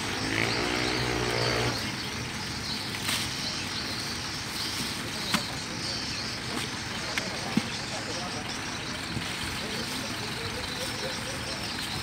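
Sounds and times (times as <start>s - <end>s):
outdoor background noise: 0.0s - 12.0s
vehicle engine running: 0.0s - 12.0s.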